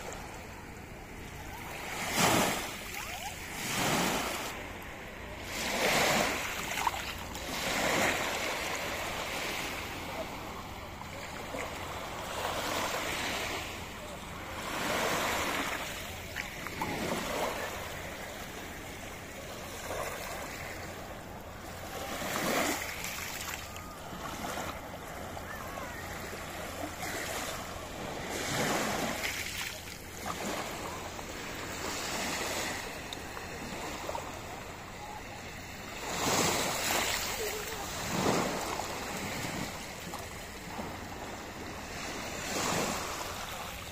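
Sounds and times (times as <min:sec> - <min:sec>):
small waves washing on shore: 0:00.0 - 0:43.9.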